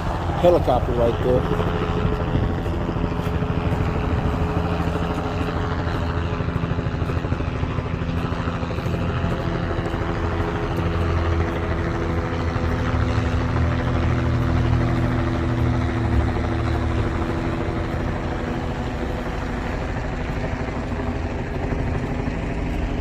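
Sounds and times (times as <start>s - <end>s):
helicopter engine and rotor: 0.0s - 23.0s.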